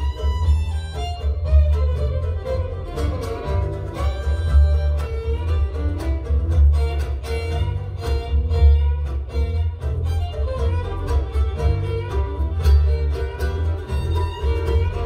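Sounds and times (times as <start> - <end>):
double bass: 0.0 - 15.0
fiddle melody: 0.0 - 15.0
mandolins: 0.0 - 15.0.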